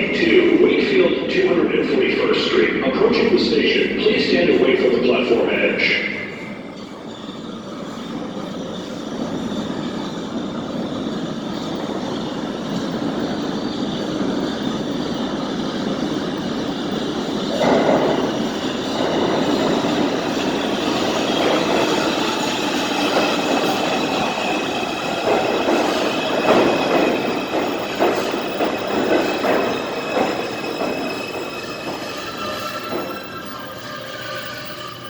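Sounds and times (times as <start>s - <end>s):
subway train rail rumble: 0.0s - 35.0s
high wheel squeal: 4.0s - 35.0s.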